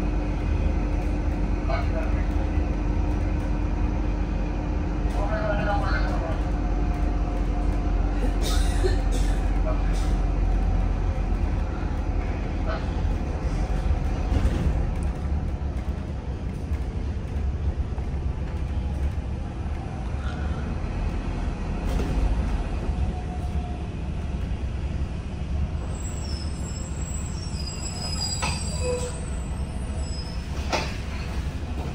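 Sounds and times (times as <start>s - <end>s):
vehicle engine and tyre rumble: 0.0s - 31.9s.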